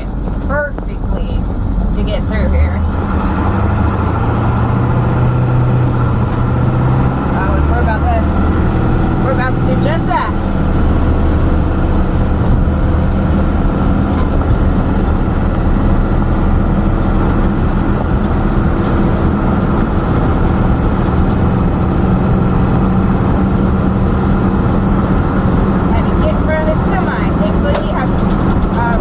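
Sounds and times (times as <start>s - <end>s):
road noise: 0.0s - 29.0s
truck engine hum: 0.0s - 29.0s.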